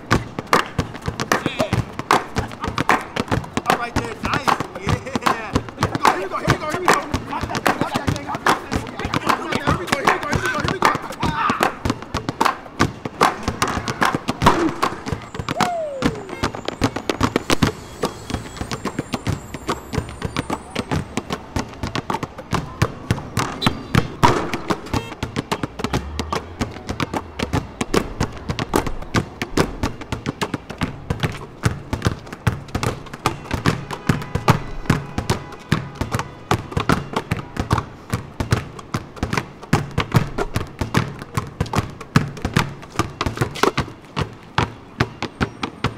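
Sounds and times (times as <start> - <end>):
basketballs dribbling on hard court: 0.0 - 45.9.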